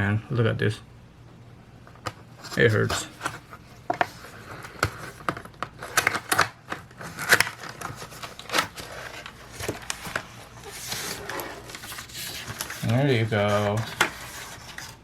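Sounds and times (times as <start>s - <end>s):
packaging being opened: 1.9s - 15.0s.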